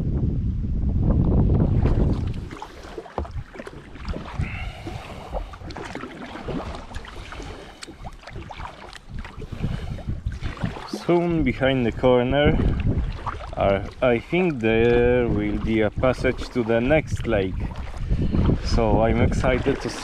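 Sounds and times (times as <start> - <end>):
wind buffeting microphone: 0.0 - 20.0
waves lapping against kayak hull: 1.2 - 20.0.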